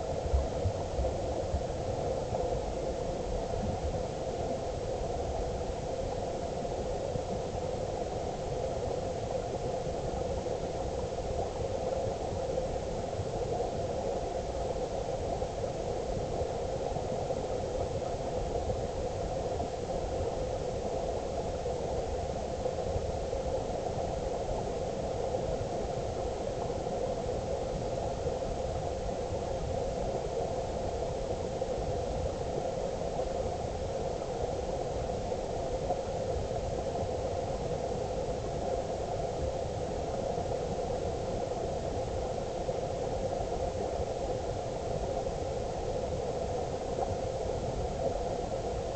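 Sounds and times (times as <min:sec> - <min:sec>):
muffled underwater river noise: 0:00.0 - 0:48.9.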